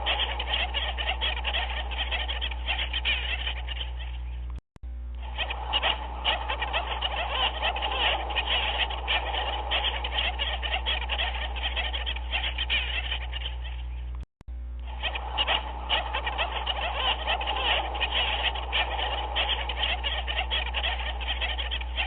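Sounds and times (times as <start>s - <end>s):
chorus of short animal calls: 0.0s - 4.4s, 5.2s - 14.2s, 14.8s - 22.0s
steady low hum: 0.0s - 22.0s.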